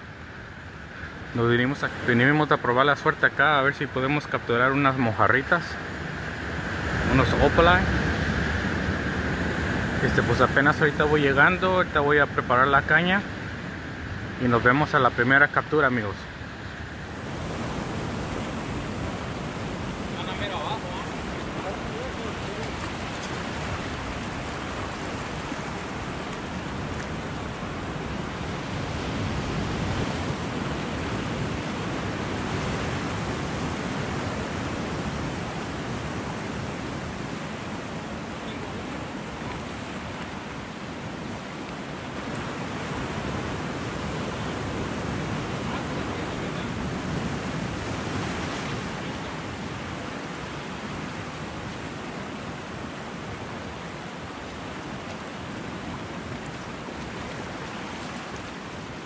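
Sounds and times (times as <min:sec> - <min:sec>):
ocean surf on rocky shore: 0:00.0 - 0:59.0.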